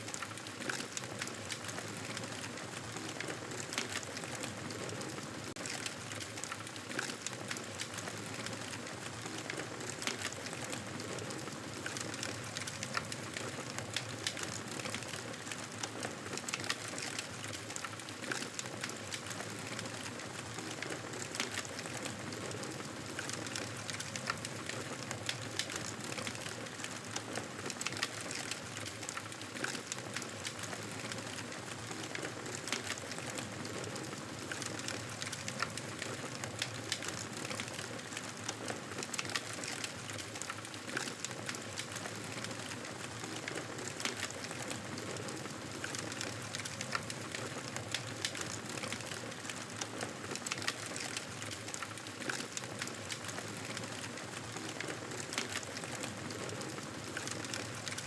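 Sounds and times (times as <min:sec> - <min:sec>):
campfire crackling and popping: 0:05.5 - 0:58.0.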